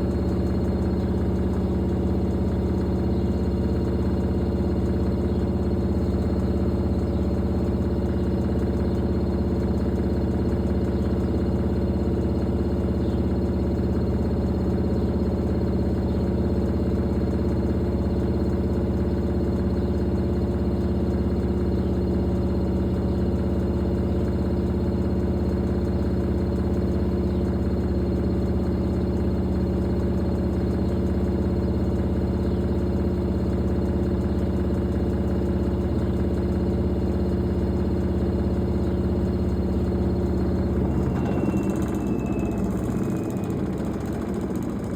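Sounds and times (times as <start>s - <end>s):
washing machine humming: 0.0s - 44.9s.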